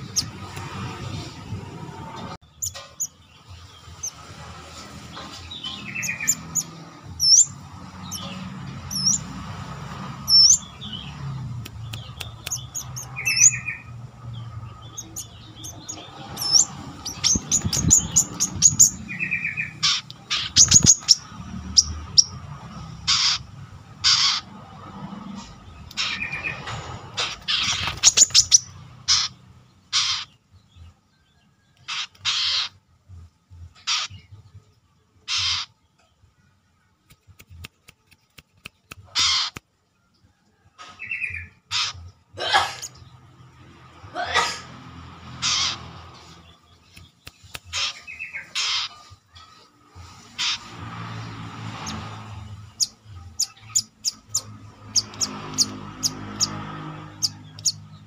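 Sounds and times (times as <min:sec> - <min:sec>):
bird chirping and trilling: 0:00.0 - 0:09.4, 0:10.0 - 0:24.6, 0:25.6 - 0:30.9, 0:31.6 - 0:32.9, 0:33.7 - 0:36.4, 0:38.7 - 0:39.6, 0:41.0 - 0:42.2, 0:45.2 - 0:58.0.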